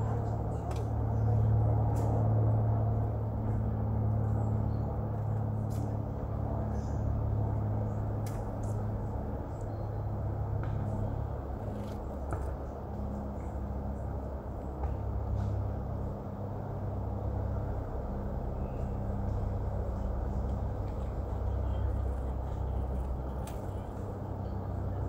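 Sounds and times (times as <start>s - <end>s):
faint low hum: 0.0s - 25.0s
low outdoor rumble: 0.0s - 25.0s.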